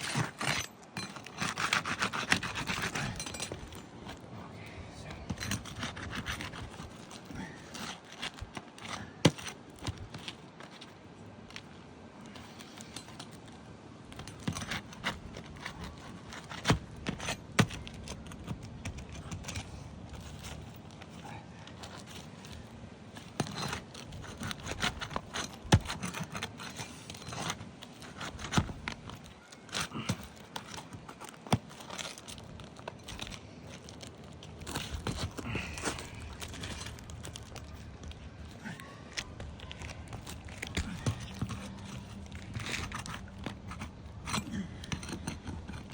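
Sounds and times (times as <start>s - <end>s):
shingles scraping and tearing: 0.0s - 45.9s.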